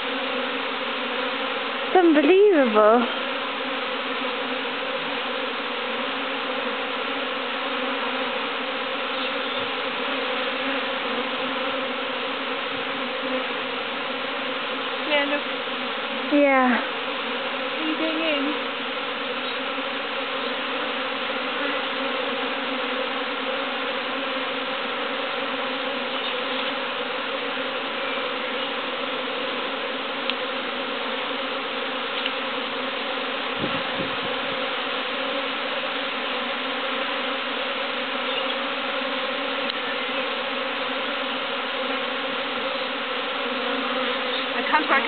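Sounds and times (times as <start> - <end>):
bee swarm buzzing: 0.0 - 45.0.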